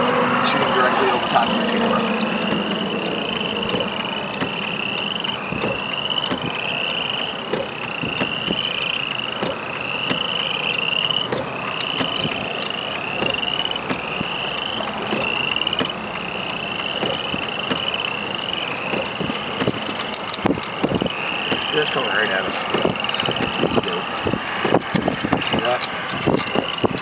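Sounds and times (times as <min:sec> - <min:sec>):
low rumble: 0:00.0 - 0:21.8
frogs calling with rasping trills: 0:00.2 - 0:27.0
sharp clicks: 0:00.9 - 0:27.0.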